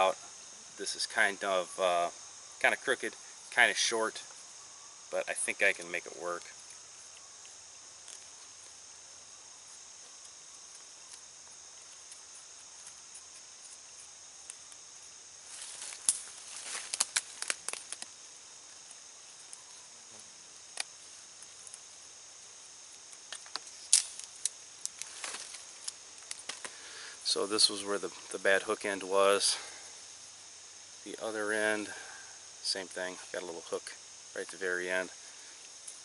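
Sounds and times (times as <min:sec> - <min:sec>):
high drone of insects: 0:00.0 - 0:36.0.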